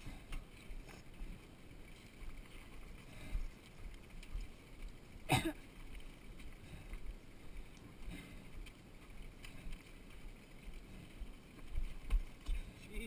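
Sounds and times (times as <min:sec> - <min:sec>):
bike rattling: 0:00.0 - 0:13.0
bike tyres crunching over dirt: 0:00.0 - 0:13.0.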